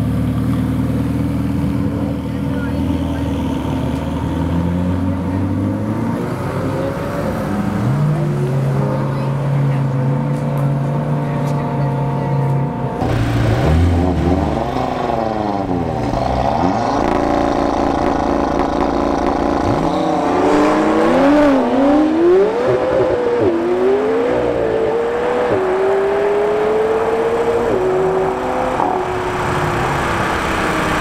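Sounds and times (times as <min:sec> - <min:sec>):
sports car engine revving: 0:00.0 - 0:31.0
car accelerating through gears: 0:02.8 - 0:31.0.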